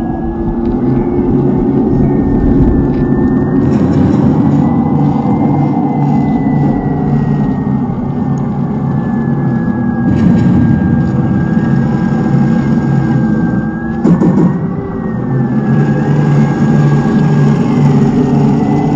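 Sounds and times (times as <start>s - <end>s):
simulated tank engine: 0.0s - 18.9s
thin high whine: 0.0s - 18.9s.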